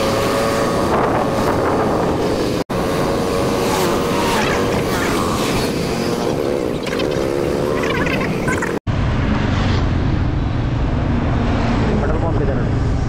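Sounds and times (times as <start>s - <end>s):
road rumble: 0.0s - 13.0s
wind rushing over microphone: 0.0s - 13.0s.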